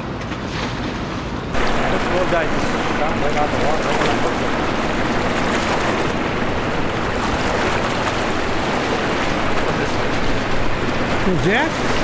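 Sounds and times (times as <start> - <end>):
wind: 0.0 - 12.0
river water rushing: 1.6 - 12.0
wind buffeting microphone: 1.6 - 12.0.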